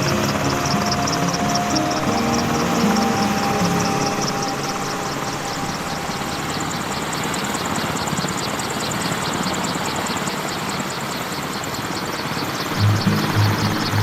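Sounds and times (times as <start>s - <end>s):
helicopter rotor noise pulsing: 0.0s - 14.0s.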